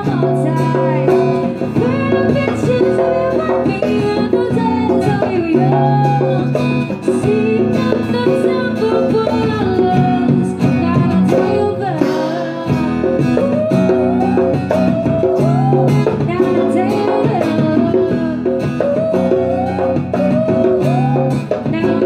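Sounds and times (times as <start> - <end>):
hand-played djembe: 0.0 - 22.0
strummed guitar: 0.0 - 22.0
woman singing: 0.0 - 22.0.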